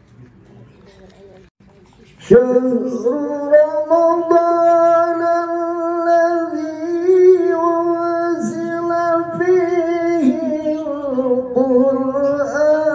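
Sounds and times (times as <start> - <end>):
man reciting in sung style: 2.2 - 12.9.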